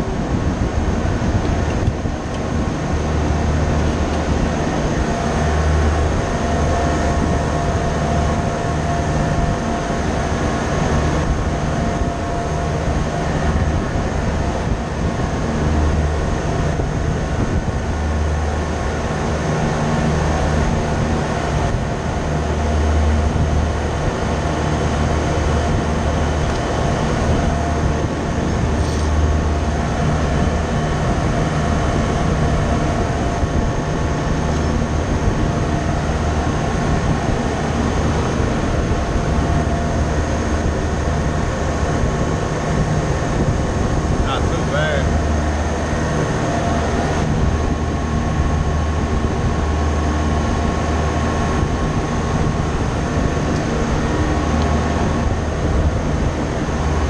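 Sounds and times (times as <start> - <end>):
loud machine drone: 0.0 - 57.0
low rumble: 0.0 - 57.0.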